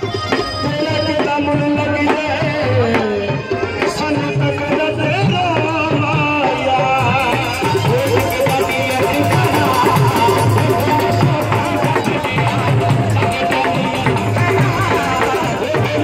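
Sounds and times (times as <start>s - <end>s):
hand-drum beat: 0.0s - 16.0s
man singing into a microphone: 0.0s - 16.0s.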